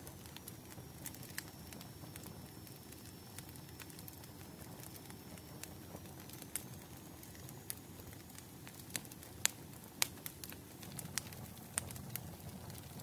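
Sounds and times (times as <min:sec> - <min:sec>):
burning wood crackling and popping: 0:00.0 - 0:13.0
low rumble of flames: 0:00.0 - 0:13.0.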